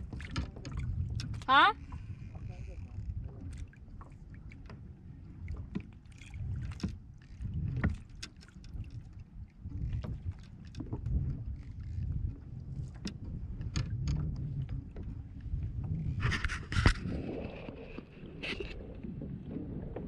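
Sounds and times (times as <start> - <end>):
water slapping against kayak hull: 0.0 - 2.2, 3.0 - 20.0
low wind rumble on microphone: 0.0 - 20.0.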